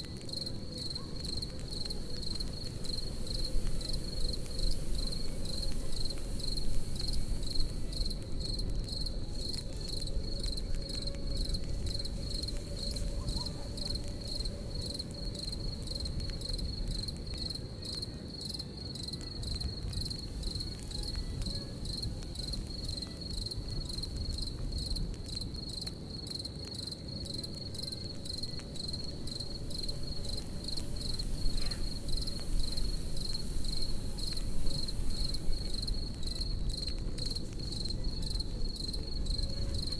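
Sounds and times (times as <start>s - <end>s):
campfire rumble and crackle: 0.0s - 39.9s
crickets chirping: 0.0s - 39.9s.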